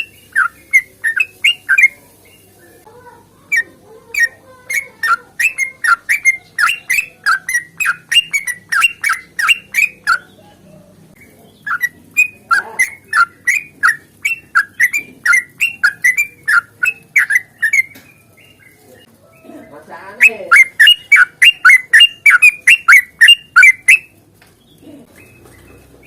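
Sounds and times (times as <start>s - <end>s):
bulbul chattering song: 0.0s - 25.8s.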